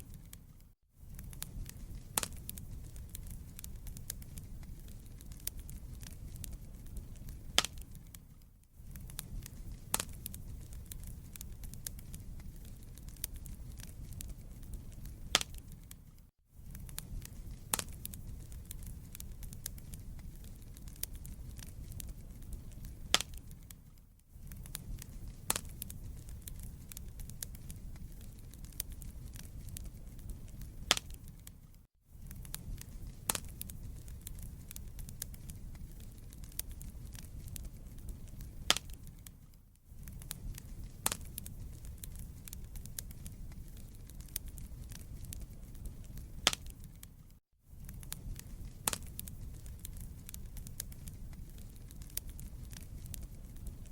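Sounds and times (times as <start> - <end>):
crackles and pops of burning logs: 0.0 - 53.9
wood fire flames rumbling: 0.0 - 53.9.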